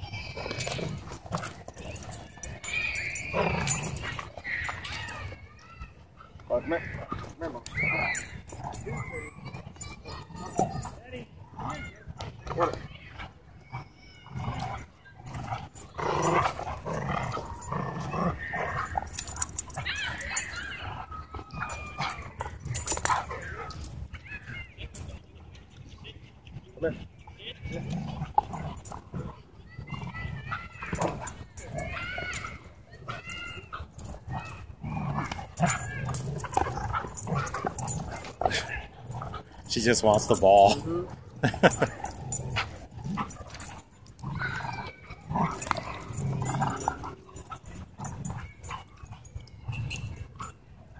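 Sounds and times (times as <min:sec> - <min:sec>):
dog whining: 0:00.0 - 0:05.4, 0:06.7 - 0:11.0, 0:13.7 - 0:25.1, 0:27.7 - 0:50.6
dogs growling: 0:00.0 - 0:05.4, 0:06.9 - 0:25.1, 0:27.6 - 0:50.9.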